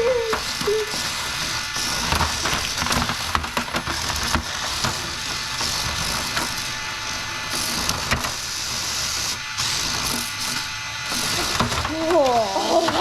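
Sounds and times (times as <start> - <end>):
small electric motors whirring: 0.0 - 13.0.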